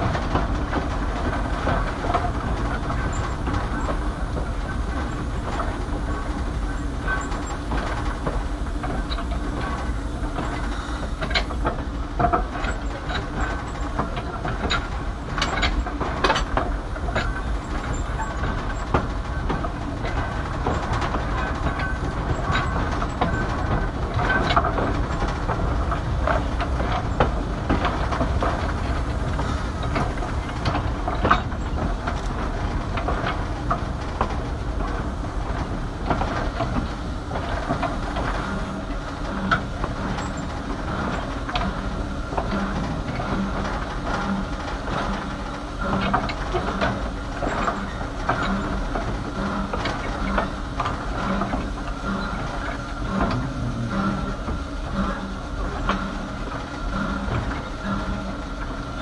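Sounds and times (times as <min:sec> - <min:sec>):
train rumbling along track: 0:00.0 - 0:59.0
wheel clicks and clanks: 0:07.0 - 0:59.0.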